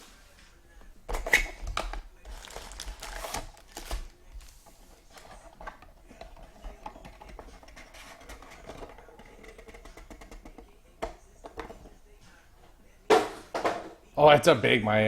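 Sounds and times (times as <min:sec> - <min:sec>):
faint radio music: 0:00.0 - 0:15.0.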